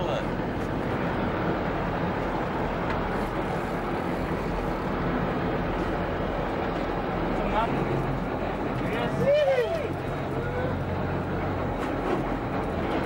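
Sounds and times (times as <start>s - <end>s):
boat engine humming: 0.0s - 13.0s
wind and water rushing: 0.0s - 13.0s.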